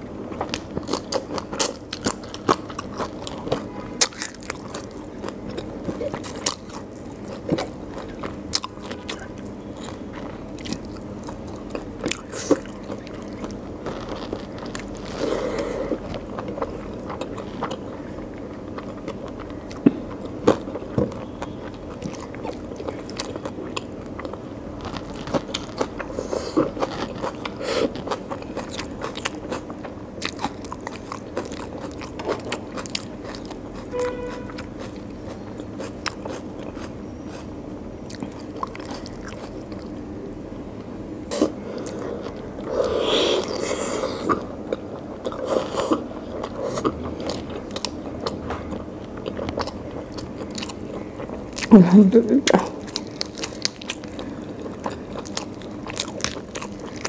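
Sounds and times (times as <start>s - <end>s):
close chewing: 0.3s - 40.0s, 40.8s - 57.0s.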